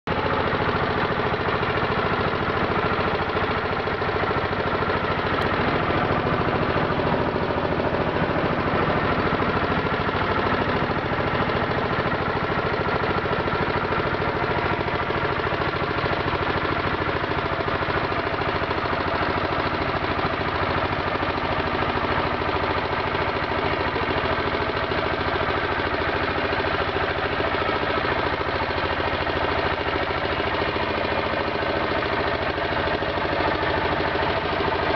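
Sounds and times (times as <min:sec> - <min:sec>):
motorboat engine running: 0:00.1 - 0:34.9.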